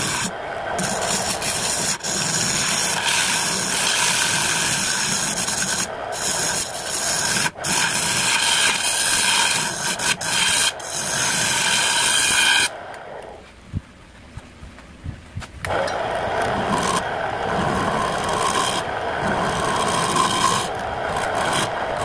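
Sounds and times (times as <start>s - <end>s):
lathe tool scraping wood: 0.0s - 13.5s, 15.7s - 22.0s.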